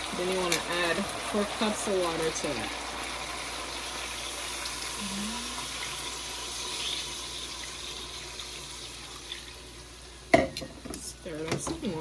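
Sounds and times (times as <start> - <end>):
water pouring into a pot: 0.0 - 11.4.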